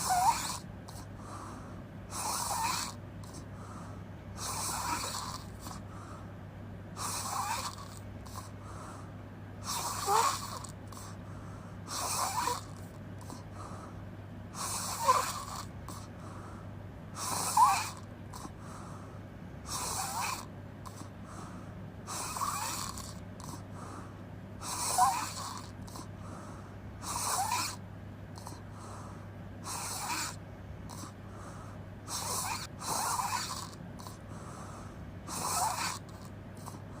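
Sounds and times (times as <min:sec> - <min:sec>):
person snoring: 0:00.0 - 0:05.9, 0:07.0 - 0:09.0, 0:09.6 - 0:11.2, 0:11.8 - 0:13.9, 0:14.5 - 0:16.1, 0:17.2 - 0:18.9, 0:19.6 - 0:27.8, 0:28.4 - 0:37.0.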